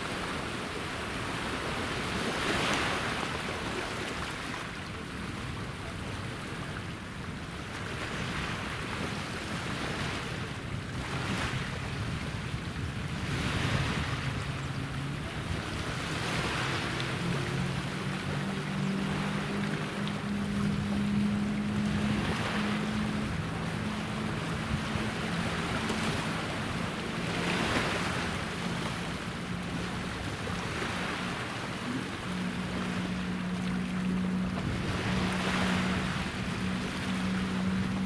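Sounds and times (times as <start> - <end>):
small waves washing on shore: 0.0 - 38.0
wind on microphone: 4.9 - 38.0.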